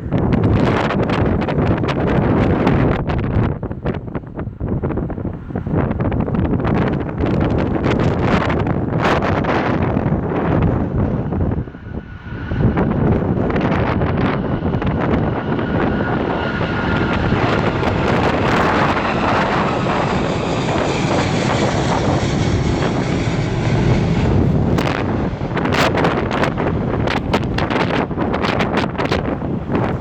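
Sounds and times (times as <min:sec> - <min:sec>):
jet engines rumbling: 0:00.0 - 0:30.0
wind buffeting microphone: 0:00.0 - 0:30.0.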